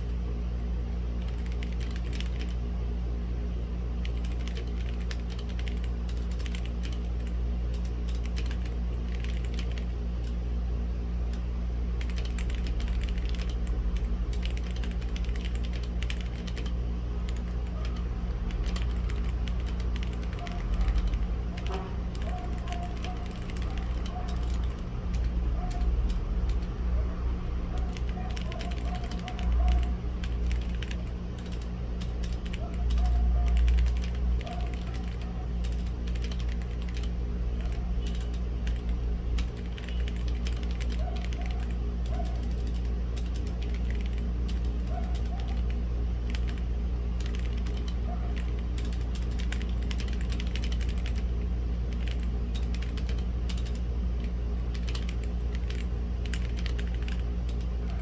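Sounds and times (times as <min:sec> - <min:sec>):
low background rumble: 0:00.0 - 0:58.0
mechanical keyboard typing: 0:01.1 - 0:02.6, 0:04.0 - 0:10.5, 0:11.3 - 0:58.0.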